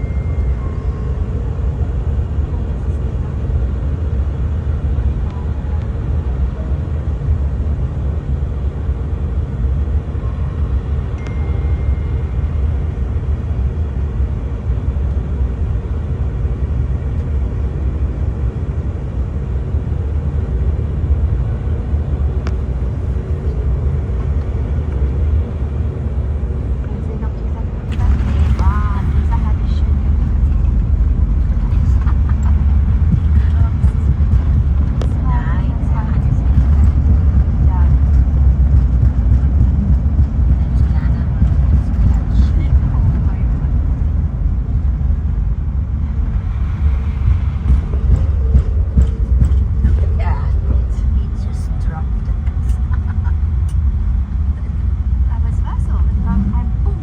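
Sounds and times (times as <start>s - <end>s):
jet engine and airflow rumble: 0.0s - 57.0s.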